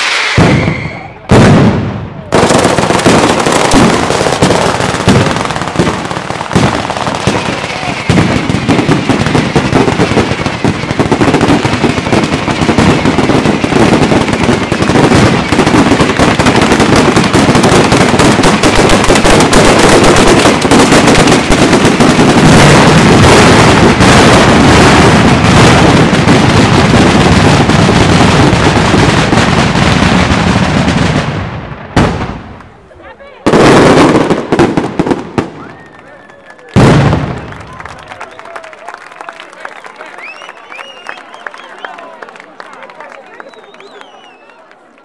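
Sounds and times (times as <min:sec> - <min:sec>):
firecrackers crackling: 0:00.0 - 0:44.9.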